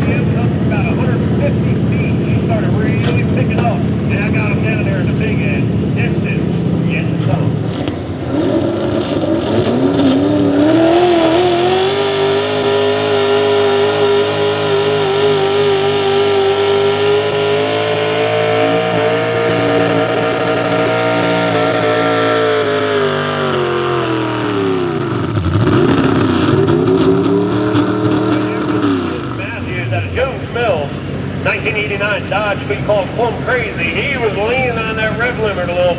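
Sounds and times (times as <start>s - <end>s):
truck engine at full throttle: 0.0s - 35.9s.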